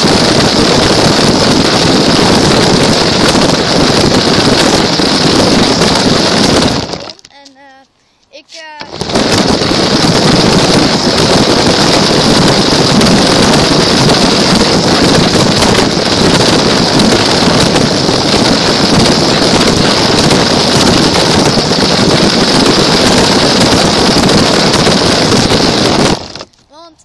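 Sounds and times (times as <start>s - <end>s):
high whine: 0.0s - 7.6s, 8.5s - 26.6s
toy car rattling and rumbling: 0.0s - 7.6s, 8.8s - 26.7s.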